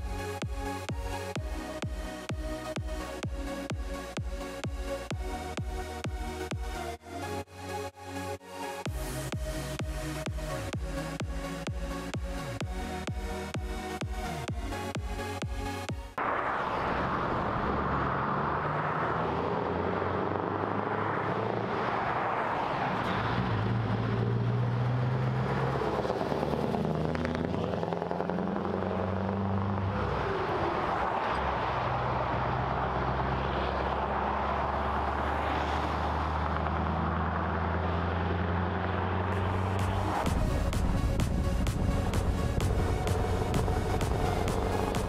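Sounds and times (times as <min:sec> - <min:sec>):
road and wind noise: 0:00.0 - 0:45.0
vehicle engine drone: 0:00.0 - 0:45.0.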